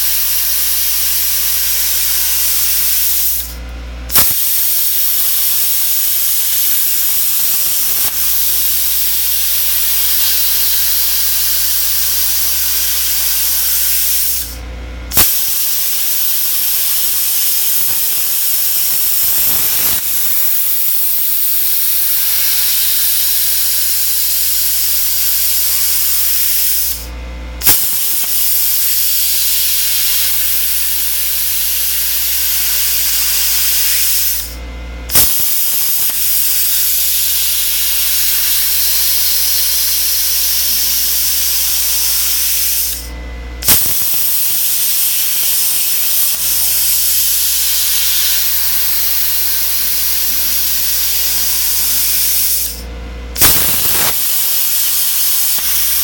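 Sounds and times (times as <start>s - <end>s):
plasma cutter hissing: 0.0s - 52.8s, 53.4s - 56.0s
plasma arc striking pop: 2.9s - 27.0s, 27.6s - 31.8s, 32.5s - 51.3s, 53.4s - 56.0s.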